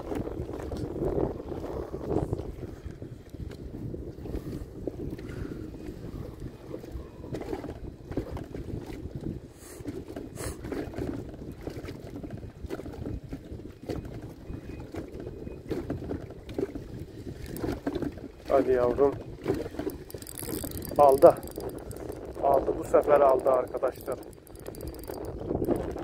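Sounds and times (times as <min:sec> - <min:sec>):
waves slapping boat hull: 0:00.0 - 0:26.0
wind buffeting microphone: 0:00.0 - 0:26.0.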